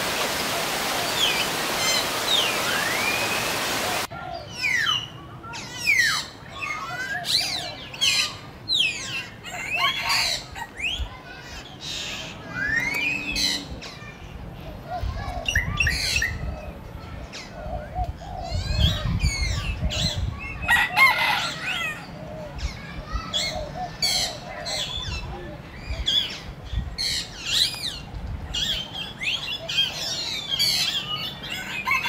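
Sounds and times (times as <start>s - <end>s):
birds chirping and calling: 0.1s - 32.0s.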